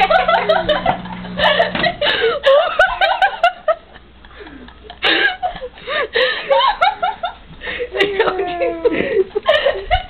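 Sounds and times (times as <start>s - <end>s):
girls laughing and giggling: 0.0s - 10.0s
low steady hum: 0.0s - 10.0s.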